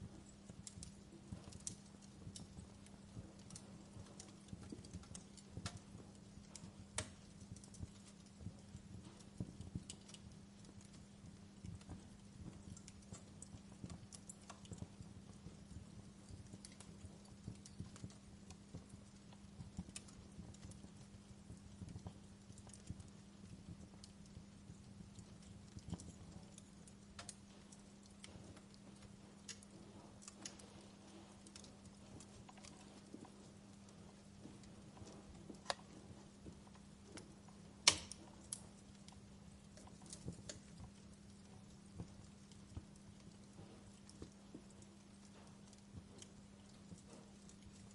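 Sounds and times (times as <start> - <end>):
low steady hum: 0.0 - 47.9
wood fire crackling: 0.0 - 47.9.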